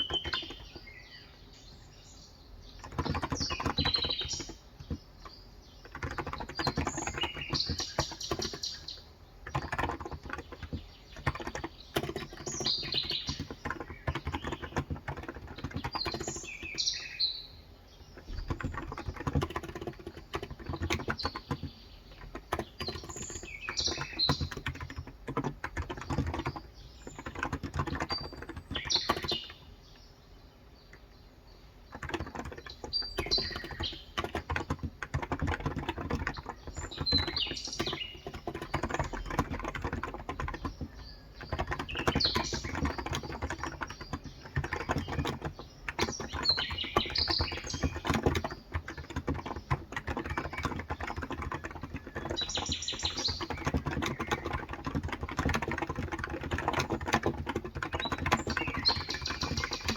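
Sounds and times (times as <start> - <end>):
birds chirping: 0.0 - 59.9
keyboard keystroke clicks: 2.8 - 17.1, 18.4 - 29.6, 31.9 - 59.9.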